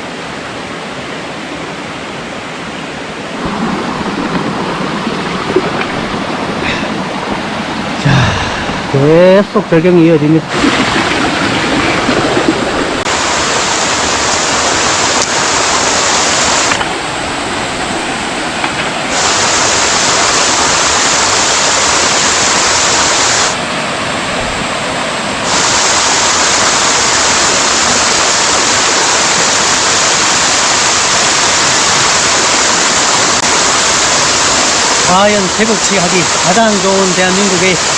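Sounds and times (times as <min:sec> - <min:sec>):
stream rushing over small falls: 0:00.0 - 0:37.9.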